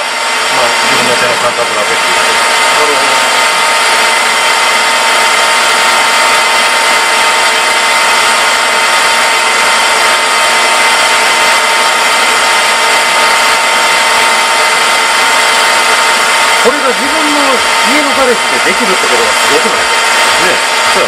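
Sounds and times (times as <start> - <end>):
metal lathe machining hiss: 0.0 - 21.0.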